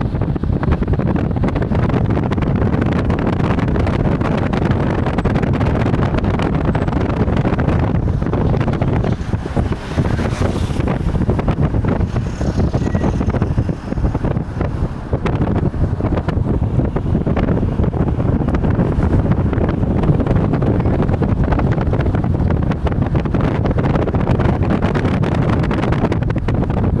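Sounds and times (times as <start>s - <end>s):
car road noise: 0.0s - 27.0s
wind buffeting microphone: 0.0s - 27.0s.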